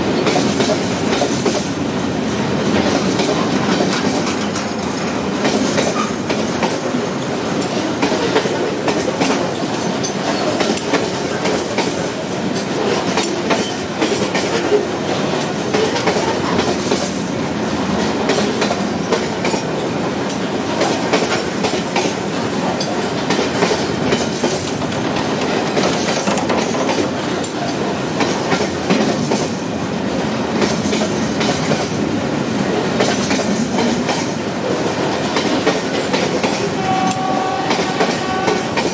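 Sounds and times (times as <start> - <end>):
train wheels clattering over rail joints: 0.1 - 1.8, 2.6 - 17.3, 17.9 - 29.6, 30.2 - 32.0, 32.7 - 38.9.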